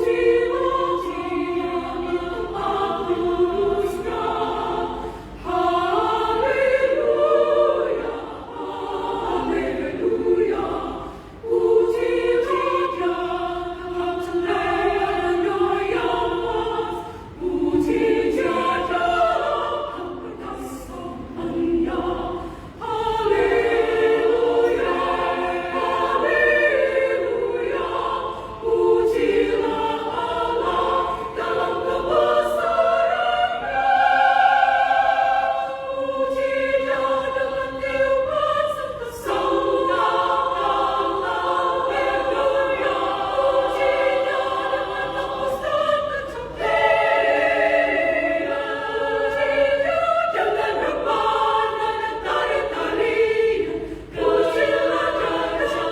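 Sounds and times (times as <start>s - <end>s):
women's choir singing: 0.0s - 55.9s.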